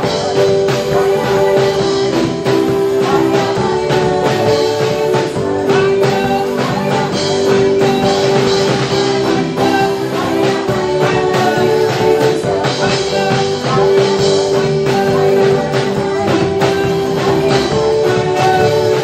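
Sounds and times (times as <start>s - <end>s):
gospel band playing: 0.0s - 19.0s
group singing worship chorus: 0.0s - 19.0s.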